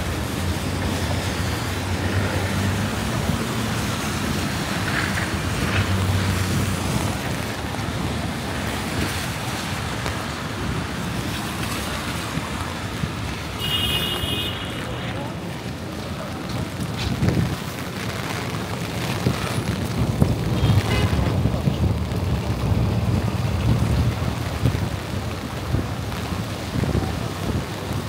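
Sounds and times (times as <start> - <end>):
tyres hissing on wet pavement: 0.0 - 28.0
vehicle engines humming: 0.0 - 28.0.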